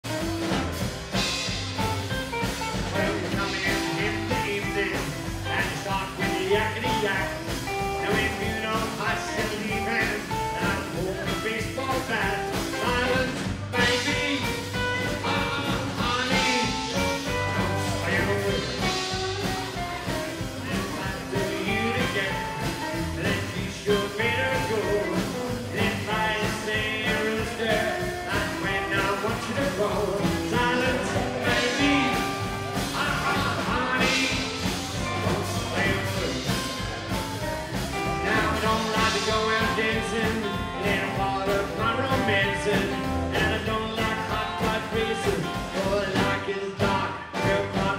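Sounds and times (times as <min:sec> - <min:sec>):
acoustic guitar: 0:00.0 - 0:47.9
drum kit: 0:00.0 - 0:47.9
electric guitar: 0:00.0 - 0:47.9
upright double bass: 0:00.0 - 0:47.9.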